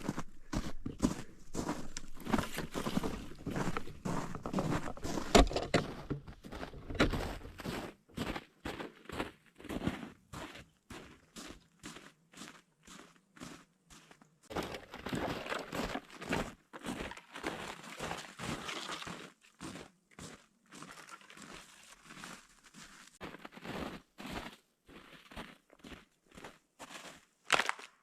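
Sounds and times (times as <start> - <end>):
footsteps crunching through snow: 0.0 - 28.0.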